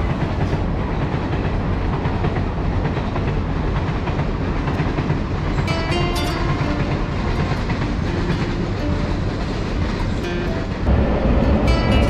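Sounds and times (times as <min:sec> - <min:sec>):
train rumbling over bridge: 0:00.0 - 0:12.0
train wheel clatter: 0:00.0 - 0:12.0.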